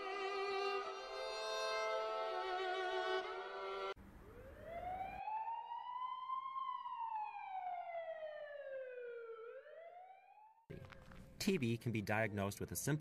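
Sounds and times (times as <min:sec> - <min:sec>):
emergency vehicle siren wailing: 0:00.1 - 0:10.7.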